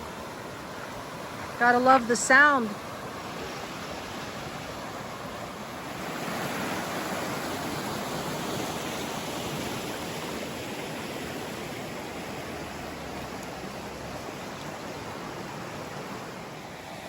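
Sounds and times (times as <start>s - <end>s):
creek rushing over rocks: 0.0s - 17.0s.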